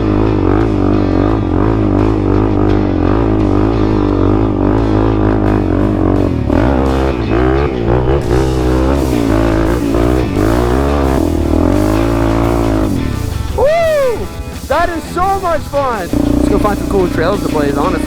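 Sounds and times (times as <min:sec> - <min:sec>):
electronic music with bass line: 0:00.0 - 0:18.0.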